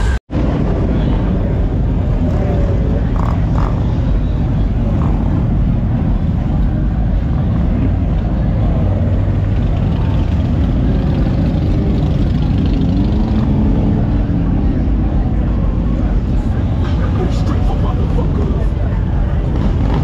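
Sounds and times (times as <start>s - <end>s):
motorcycles rumbling past: 0.5s - 20.0s
motorcycle engine revving: 1.6s - 17.1s, 17.9s - 20.0s.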